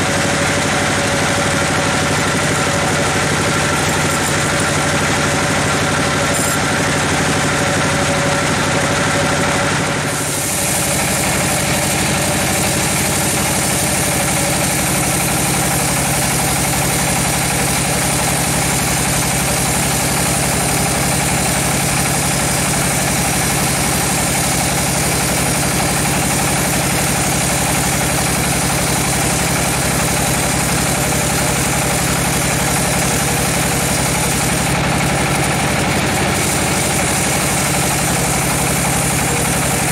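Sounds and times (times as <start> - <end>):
band saw ripping through log: 0.0 - 39.9.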